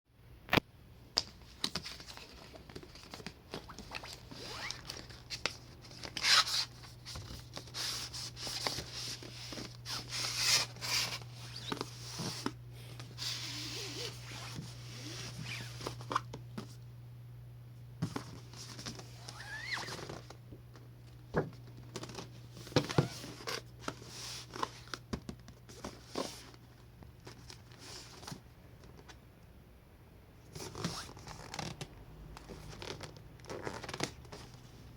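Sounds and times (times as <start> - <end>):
steady low hum: 0.2 - 34.9.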